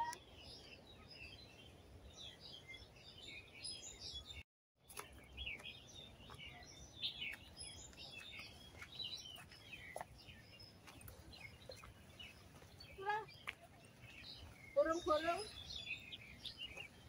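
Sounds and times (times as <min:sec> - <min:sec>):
faint outdoor background: 0:00.0 - 0:17.0
small birds chirping: 0:00.0 - 0:17.0.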